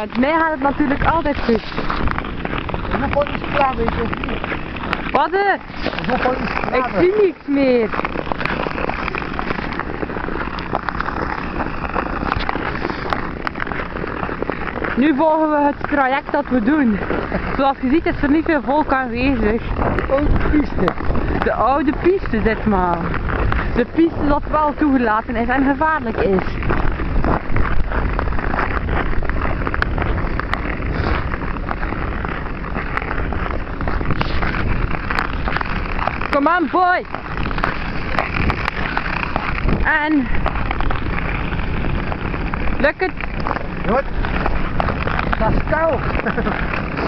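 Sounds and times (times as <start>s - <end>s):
ice skates scraping ice: 0.0s - 47.0s
wind on microphone: 0.0s - 47.0s.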